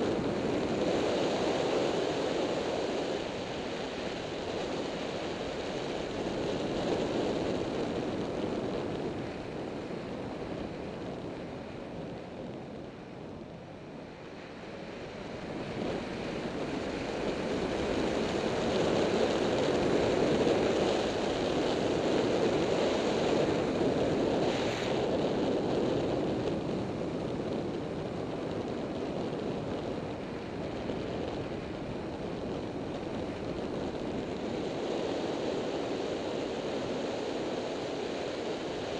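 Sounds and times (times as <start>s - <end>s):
wind roaring over microphone: 0.0s - 38.9s.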